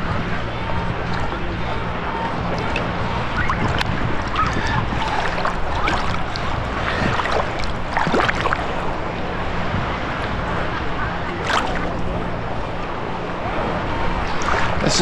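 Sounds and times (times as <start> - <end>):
seawater sloshing and gurgling: 0.0 - 15.0.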